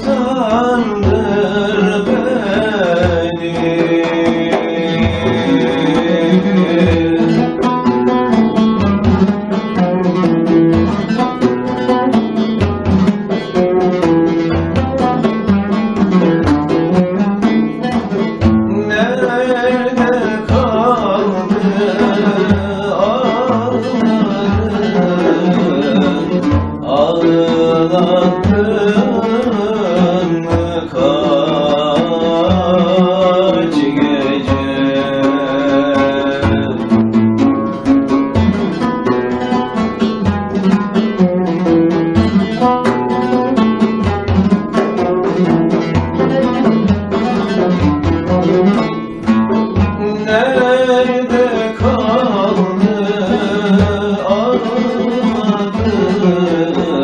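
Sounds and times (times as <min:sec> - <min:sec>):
frame drum beating: 0:00.0 - 0:57.0
man singing: 0:00.0 - 0:57.0
oud playing: 0:00.0 - 0:57.0.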